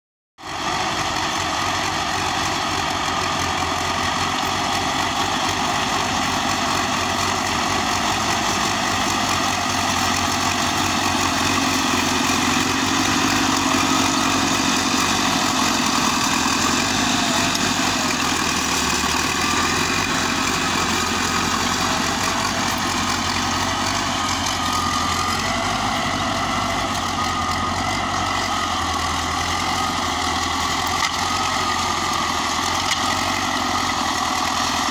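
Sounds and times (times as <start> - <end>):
tractor diesel engine idling: 0.4 - 34.9.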